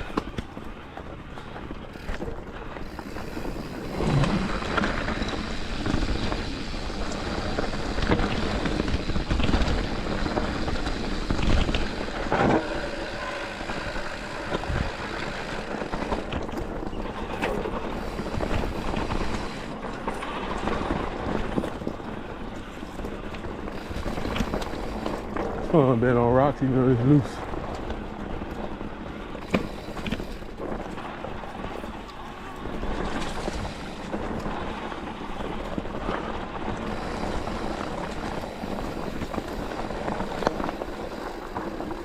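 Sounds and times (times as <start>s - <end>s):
bike tyres crunching over rock: 0.0s - 42.0s.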